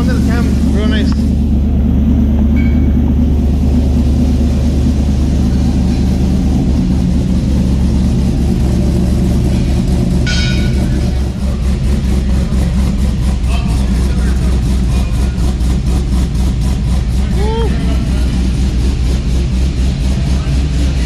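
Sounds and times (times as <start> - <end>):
pickup truck engine idling: 0.0 - 21.0.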